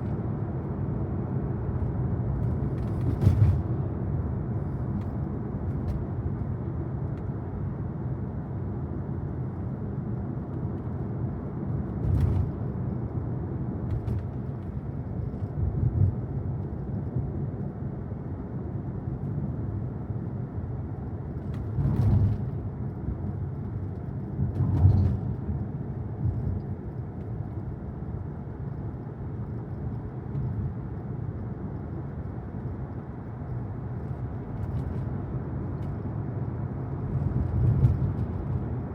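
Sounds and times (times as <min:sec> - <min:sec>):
road and tyre rumble in car: 0:00.0 - 0:38.9.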